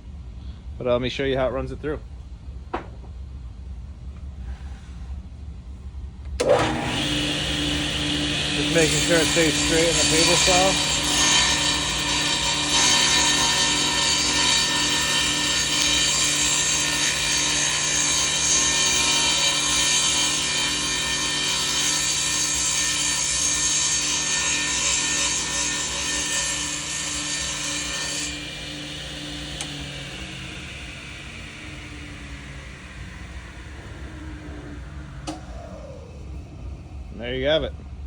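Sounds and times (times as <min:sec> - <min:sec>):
table saw cutting wood: 0:06.4 - 0:37.1.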